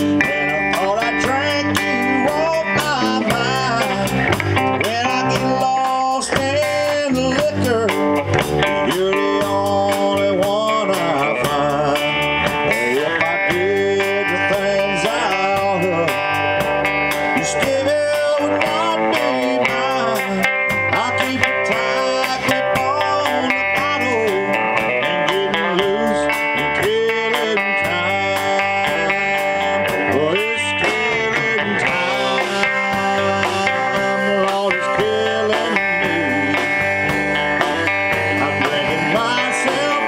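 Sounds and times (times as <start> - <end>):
drum kit with cymbals: 0.0 - 40.0
electric guitars: 0.0 - 40.0
pitch-bending guitar lead: 0.0 - 40.0.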